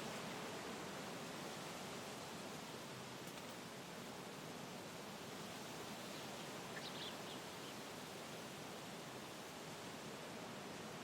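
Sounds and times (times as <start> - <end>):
wind rustling trees: 0.0 - 11.0.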